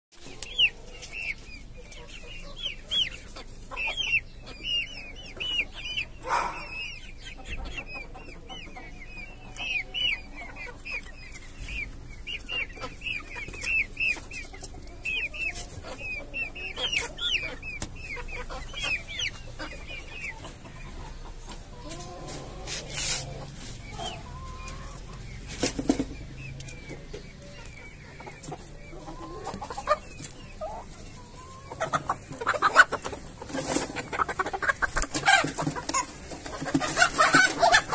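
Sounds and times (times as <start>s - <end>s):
chicks peeping and cheeping: 0.1s - 37.9s.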